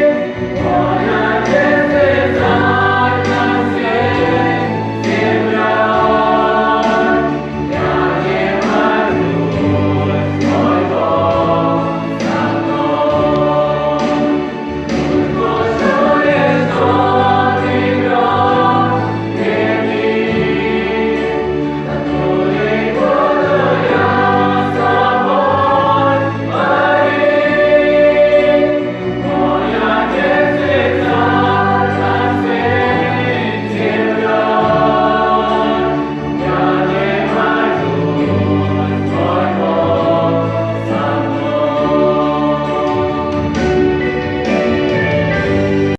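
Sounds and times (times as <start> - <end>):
youth choir singing: 0.0 - 45.9.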